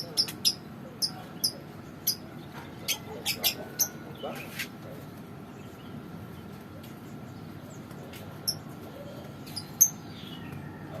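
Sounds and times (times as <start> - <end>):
lovebirds chirping: 0.0 - 11.0
low background hum: 0.0 - 11.0.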